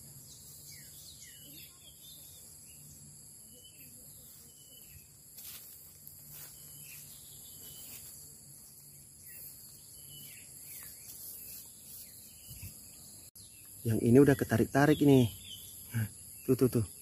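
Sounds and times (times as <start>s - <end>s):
bird chirps: 0.0s - 17.0s
insect chirring: 0.0s - 17.0s.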